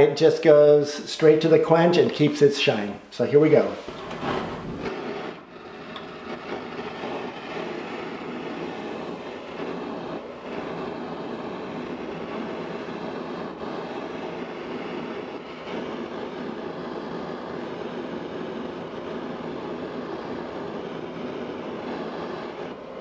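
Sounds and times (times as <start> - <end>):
torch flame rushing: 1.2 - 23.0.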